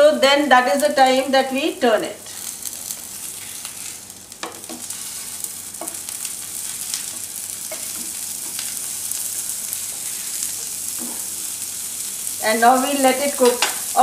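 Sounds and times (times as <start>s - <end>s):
patties sizzling in oil: 0.4s - 14.0s.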